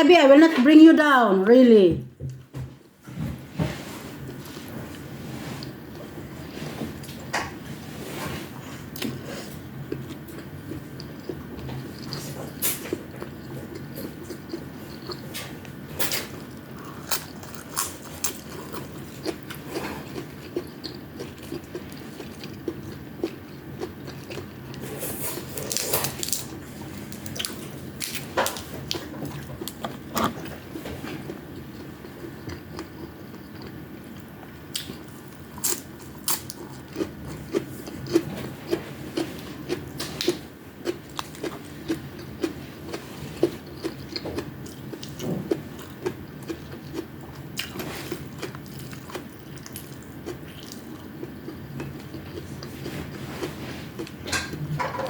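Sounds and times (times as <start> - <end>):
person chewing food: 8.2 - 55.0.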